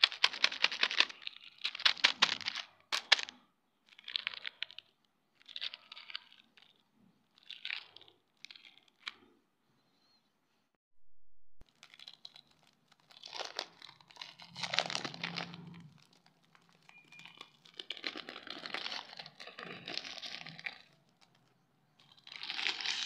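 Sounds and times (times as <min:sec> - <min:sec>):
foil wrapper crinkling and tearing: 0:00.0 - 0:09.3, 0:11.6 - 0:23.0.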